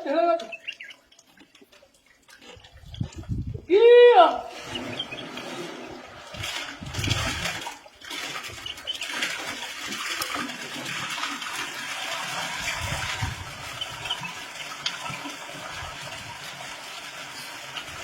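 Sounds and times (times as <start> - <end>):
water gushing and splashing: 0.0 - 3.7, 4.4 - 18.0.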